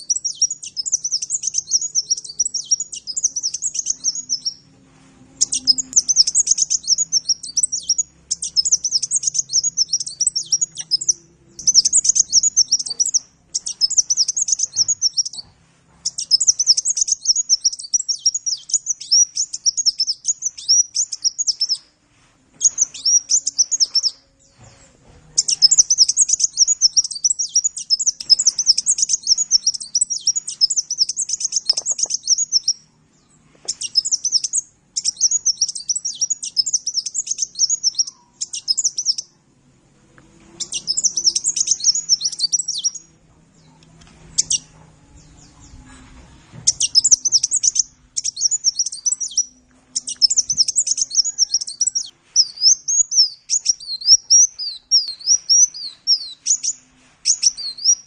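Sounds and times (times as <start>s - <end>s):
sunbird twittering song: 0.0s - 4.6s, 5.4s - 21.9s, 22.6s - 24.6s, 25.4s - 39.4s, 40.6s - 46.0s, 46.6s - 58.0s.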